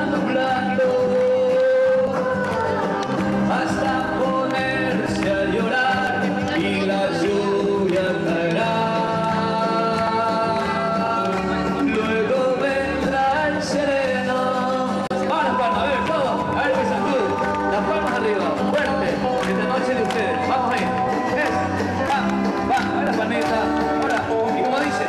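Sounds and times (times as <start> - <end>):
musical accompaniment: 0.0 - 25.0.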